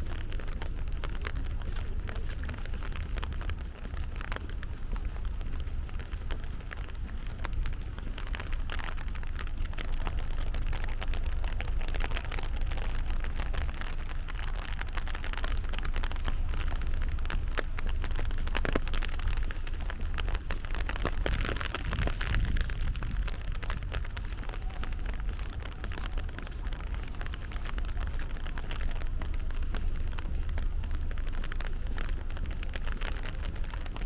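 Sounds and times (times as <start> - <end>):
heavy rain falling: 0.0 - 34.0
low rumble: 0.0 - 34.0.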